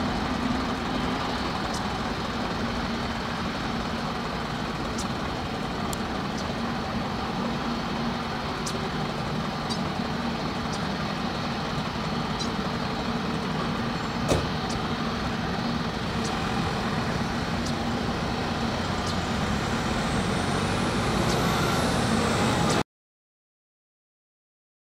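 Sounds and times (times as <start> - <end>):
jet engines roaring at takeoff: 0.0 - 22.8.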